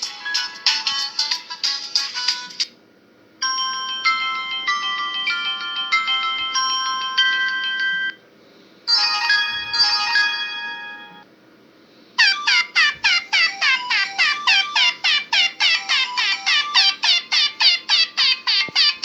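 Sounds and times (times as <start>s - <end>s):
phone ringtone melody: 0.0s - 2.7s, 3.4s - 8.2s, 8.9s - 11.2s, 12.2s - 19.0s.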